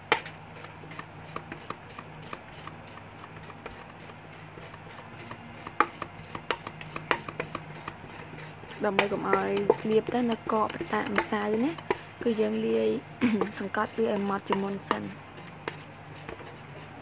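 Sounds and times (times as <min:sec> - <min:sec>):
spoon scraping steel bowl: 0:00.9 - 0:17.0.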